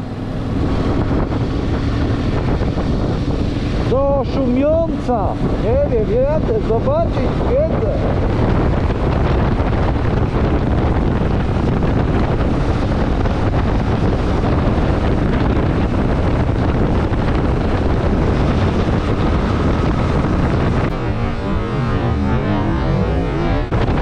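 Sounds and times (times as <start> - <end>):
motorcycle engine: 0.0 - 24.0
road noise: 0.0 - 24.0
wind rush over microphone: 0.0 - 24.0.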